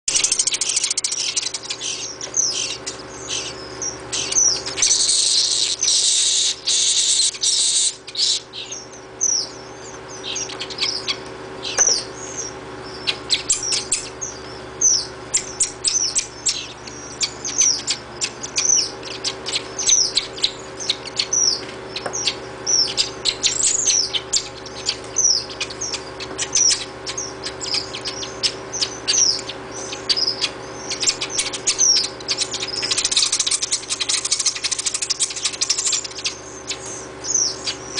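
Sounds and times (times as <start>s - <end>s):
baby swifts chittering: 0.1s - 37.9s.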